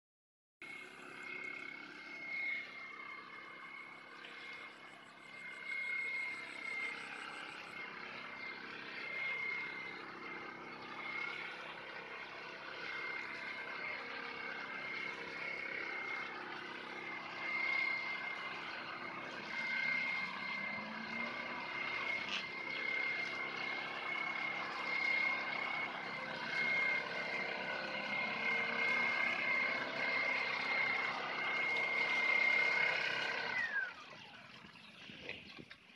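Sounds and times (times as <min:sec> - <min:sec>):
mist blower engine whining: 0:00.6 - 0:35.9.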